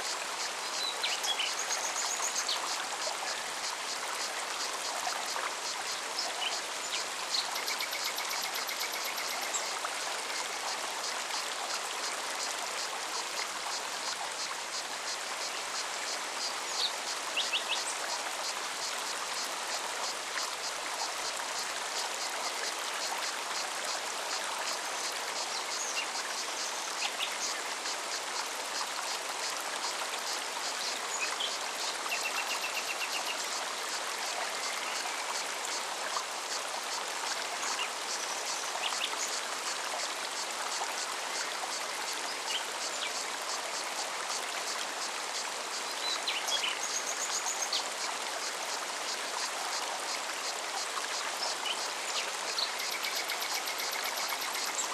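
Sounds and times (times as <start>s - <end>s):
stream running over stones: 0.0s - 54.9s.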